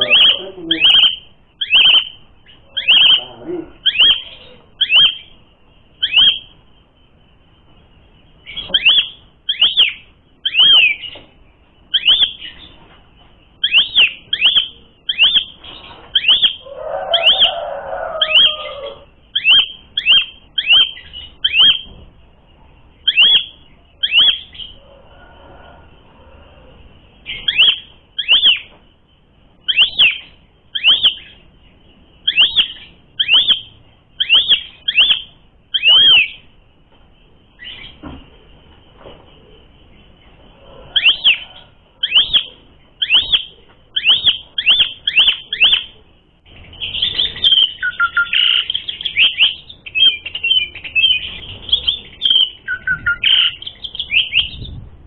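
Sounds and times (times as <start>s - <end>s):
starling calling sharp notes: 0.0s - 6.7s, 7.5s - 22.0s, 23.0s - 28.8s, 29.5s - 36.6s, 40.2s - 54.8s.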